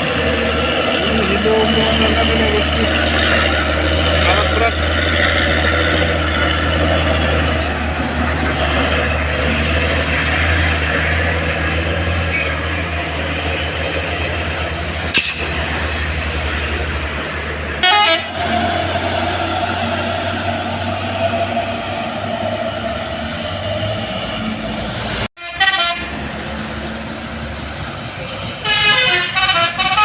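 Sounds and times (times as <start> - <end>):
truck diesel engine labouring: 0.0 - 30.0.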